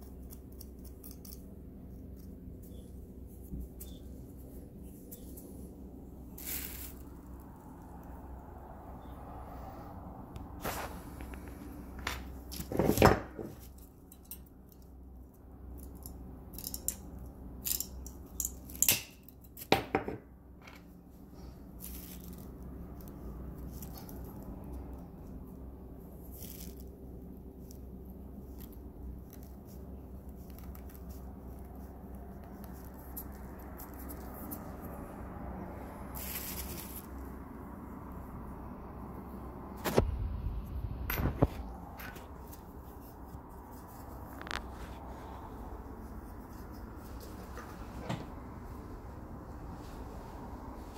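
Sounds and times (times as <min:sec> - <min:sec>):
low room tone hum: 0:00.0 - 0:50.9.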